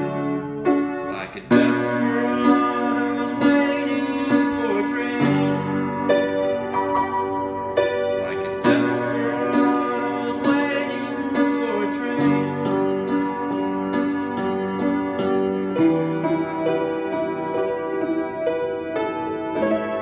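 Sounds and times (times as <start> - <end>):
solo piano: 0.0 - 20.0.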